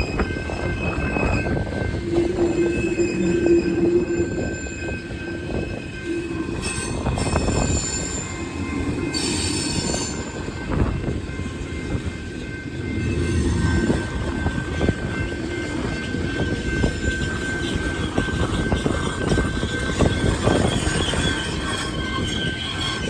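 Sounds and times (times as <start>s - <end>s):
high-pitched wheel squeal: 0.0s - 23.0s
train cars rumbling and clattering: 0.0s - 23.0s.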